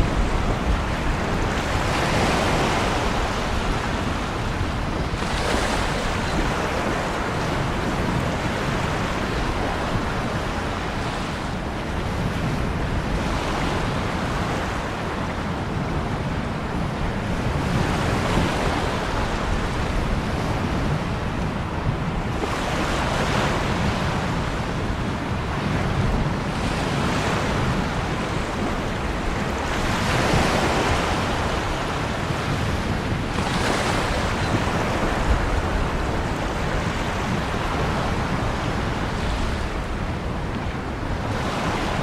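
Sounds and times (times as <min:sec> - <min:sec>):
waves breaking: 0:00.0 - 0:42.0.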